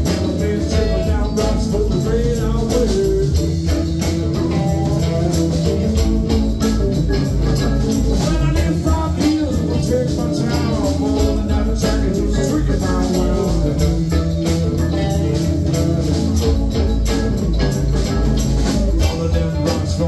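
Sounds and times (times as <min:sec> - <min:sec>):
person singing: 0:00.0 - 0:06.8, 0:07.6 - 0:17.3, 0:18.9 - 0:20.0
rock band playing: 0:00.0 - 0:20.0.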